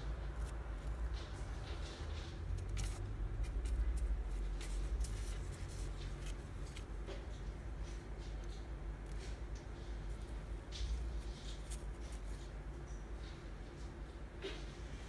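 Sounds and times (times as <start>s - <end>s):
low steady rumble: 0.0s - 14.4s
light scratching and rustling: 0.1s - 13.4s.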